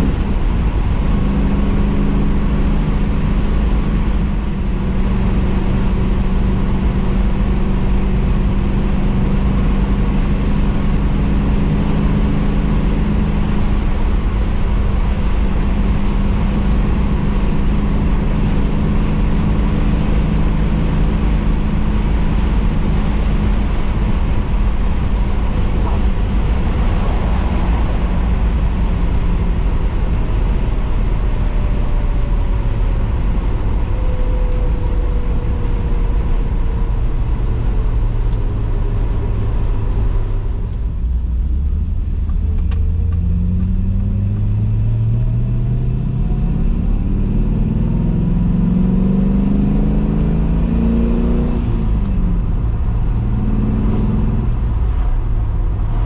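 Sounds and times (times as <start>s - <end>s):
car engine drone: 0.0s - 56.0s
low road rumble: 0.0s - 56.0s.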